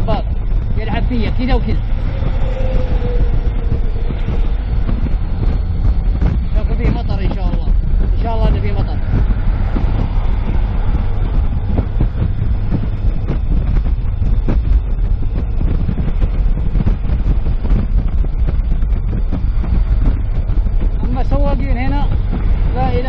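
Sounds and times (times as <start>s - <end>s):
car cabin road rumble: 0.0s - 23.0s.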